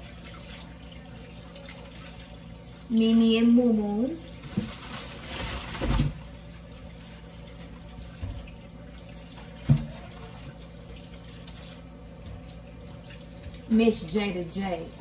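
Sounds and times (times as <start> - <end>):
kitchen tap running: 0.0 - 15.0.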